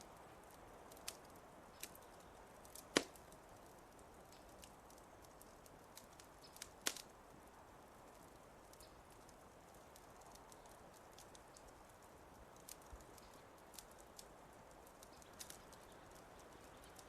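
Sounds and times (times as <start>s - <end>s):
fire popping: 0.0s - 17.0s
soft steady hiss: 0.0s - 17.0s
wood fire crackling: 0.0s - 17.0s.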